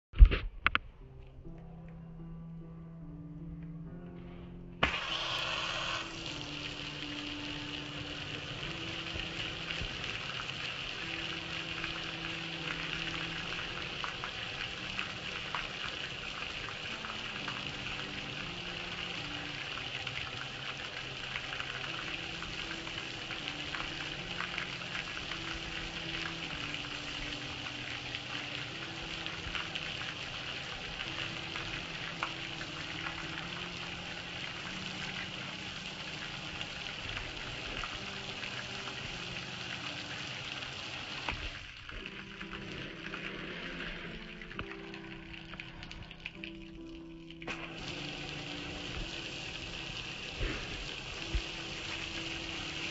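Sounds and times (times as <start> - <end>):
faint background music: 0.2 - 52.9
water splattering over metal grill: 4.8 - 52.9.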